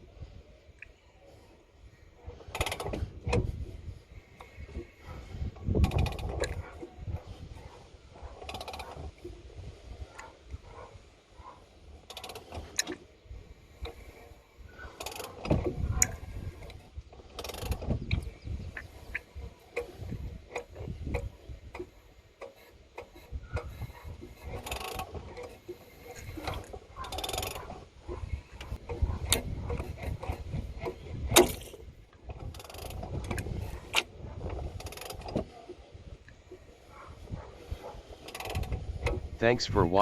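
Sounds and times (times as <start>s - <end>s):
low engine rumbling: 0.0s - 40.0s.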